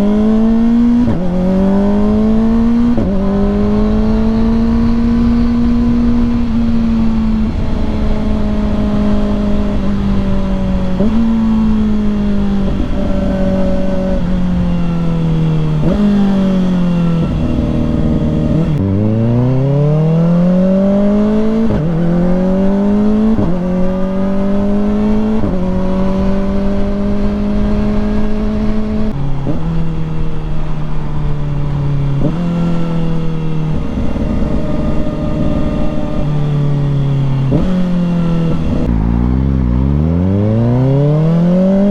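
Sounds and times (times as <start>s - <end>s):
motorcycle engine revving: 0.0s - 41.9s
quickshift gear changes: 0.0s - 41.9s.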